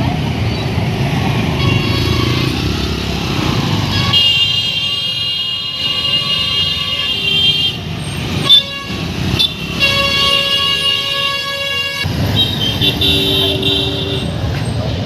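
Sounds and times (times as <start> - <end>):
vehicle horns honking: 1.6 - 3.1, 3.8 - 14.4.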